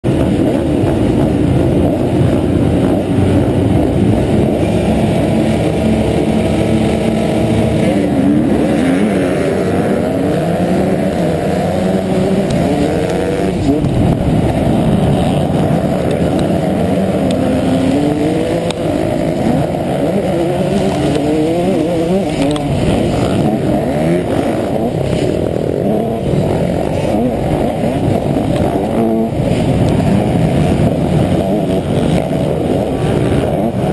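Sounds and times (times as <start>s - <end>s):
muffled motocross engine revving: 0.0s - 33.9s.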